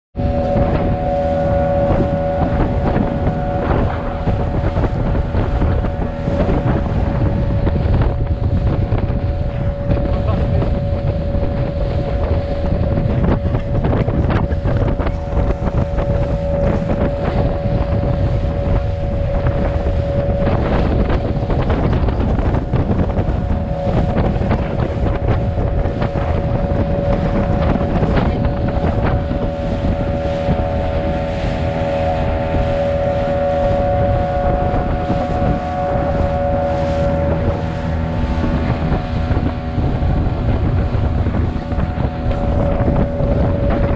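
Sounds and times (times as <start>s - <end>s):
motor boat engine whining: 0.1s - 43.9s
water splashing along hull: 0.1s - 43.9s
wind buffeting microphone: 0.2s - 43.9s.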